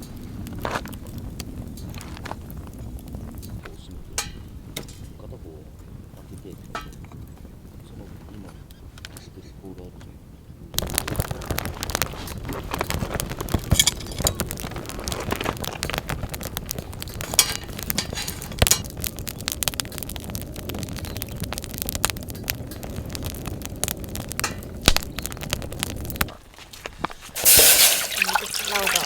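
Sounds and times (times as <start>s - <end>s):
campfire crackling and popping: 0.0s - 29.0s
hiss of burning: 0.0s - 29.0s.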